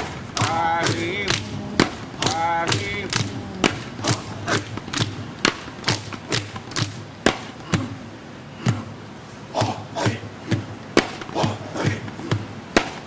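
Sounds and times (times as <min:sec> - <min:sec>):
rhythmic drumming: 0:00.0 - 0:13.0.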